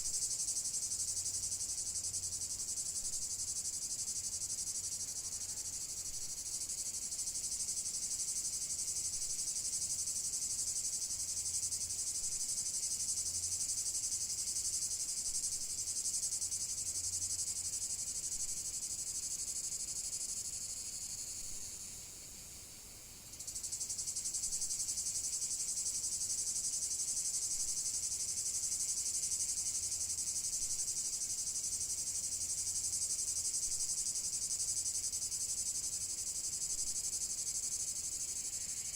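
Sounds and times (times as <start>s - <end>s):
insect chorus chirring: 0.0s - 38.9s.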